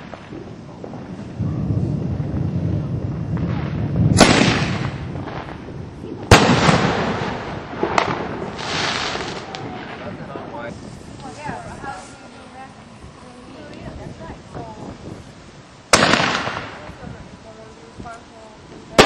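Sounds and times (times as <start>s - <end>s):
firework bangs with hiss: 0.0s - 19.0s
fireworks rumble: 0.0s - 19.0s.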